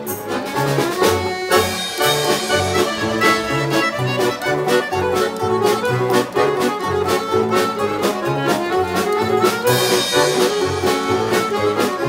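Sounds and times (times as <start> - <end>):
bass balalaika beat: 0.0 - 12.0
button accordion: 0.0 - 12.0
strummed string instruments: 0.0 - 12.0.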